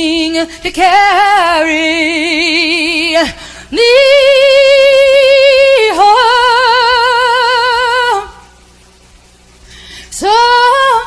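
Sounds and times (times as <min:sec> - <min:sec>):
woman singing a cappella: 0:00.0 - 0:08.7, 0:10.0 - 0:11.0.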